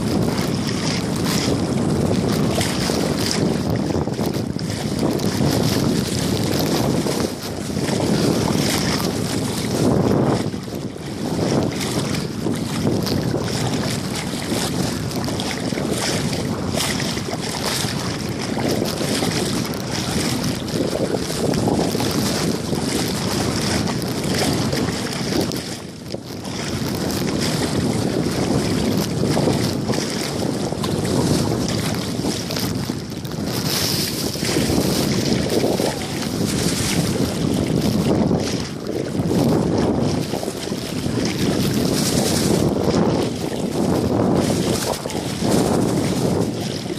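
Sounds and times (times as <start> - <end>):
water sloshing: 0.0 - 46.9
wind buffeting microphone: 0.0 - 46.9.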